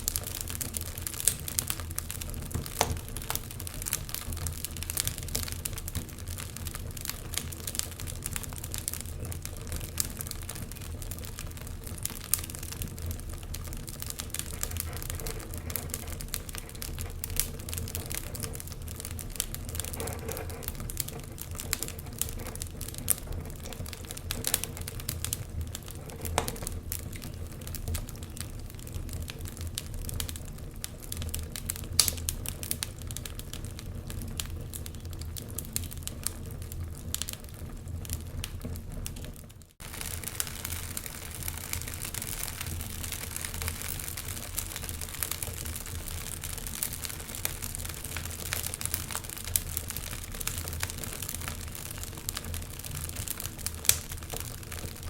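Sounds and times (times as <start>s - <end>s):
sharp pops and snaps: 0.0s - 28.1s, 30.8s - 32.9s, 39.7s - 55.0s
wood fire crackling: 0.0s - 55.0s.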